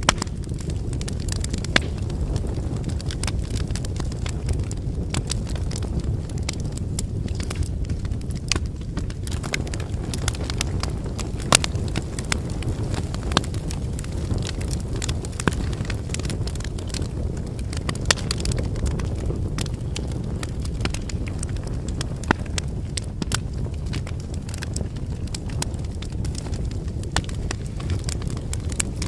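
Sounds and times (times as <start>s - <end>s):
firewood crackling and popping: 0.0s - 29.0s
low rush of flames: 0.0s - 29.0s.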